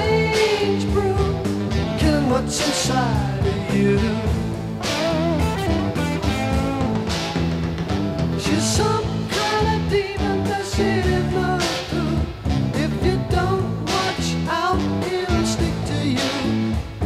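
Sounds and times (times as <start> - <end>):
person singing: 0.0 - 7.0, 8.4 - 17.0
rock music with guitar: 0.0 - 17.0.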